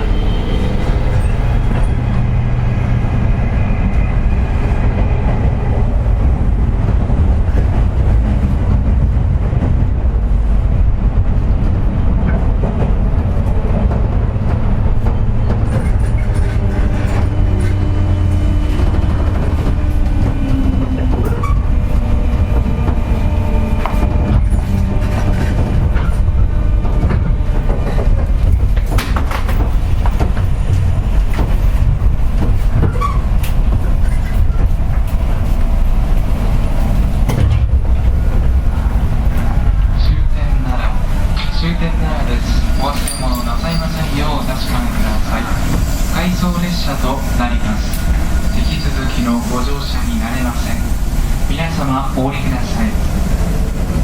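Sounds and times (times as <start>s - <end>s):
rail joint clicks: 0.0s - 54.0s
train wheels rumbling on rail: 0.0s - 54.0s.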